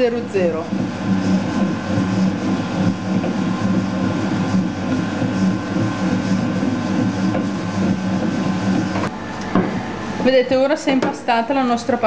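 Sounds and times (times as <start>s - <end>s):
mixer motor humming: 0.0s - 12.0s.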